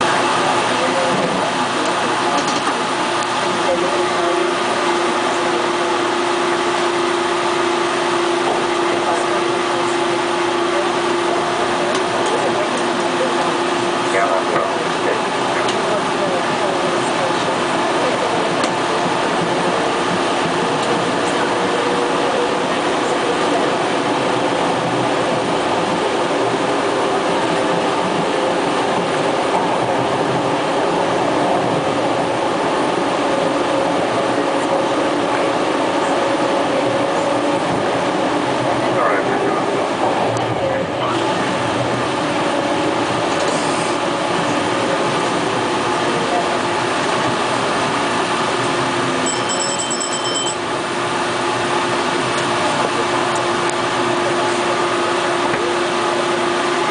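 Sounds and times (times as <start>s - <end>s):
subway train rumbling in tunnel: 0.0s - 56.9s.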